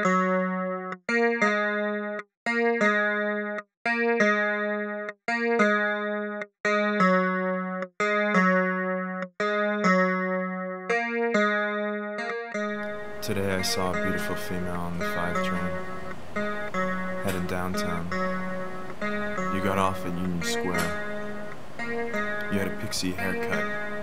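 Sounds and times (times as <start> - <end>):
plucked instrumental notes: 0.0 - 24.0.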